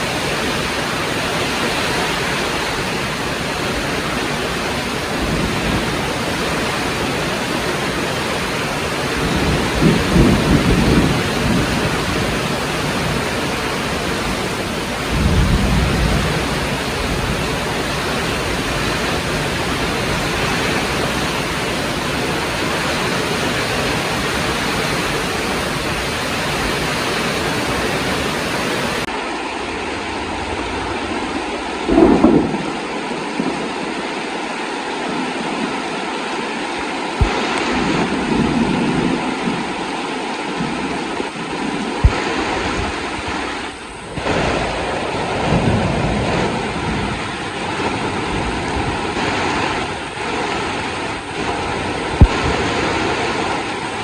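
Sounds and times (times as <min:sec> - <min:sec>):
thunder rumbling: 0:00.0 - 0:29.1, 0:29.7 - 0:34.2, 0:37.2 - 0:54.0
heavy rain falling: 0:00.0 - 0:54.0.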